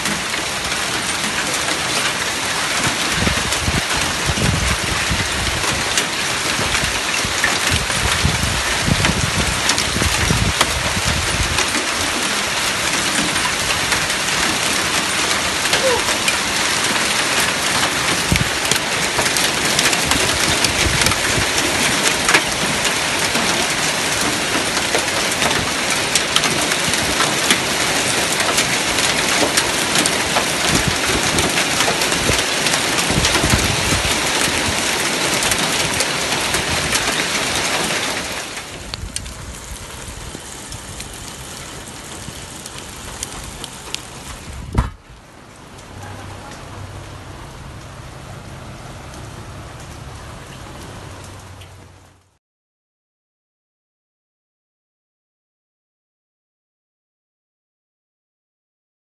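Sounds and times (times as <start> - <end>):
hailstones and heavy rain pelting: 0.0 - 52.4.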